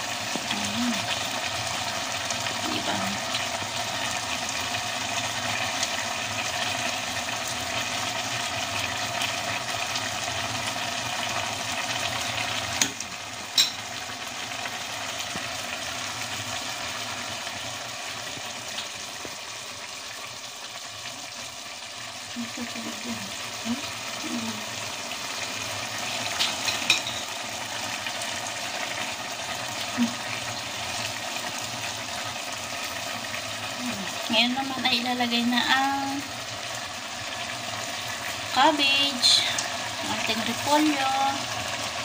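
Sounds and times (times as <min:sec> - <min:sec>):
noodles sizzling and bubbling in a pot: 0:00.0 - 0:42.0.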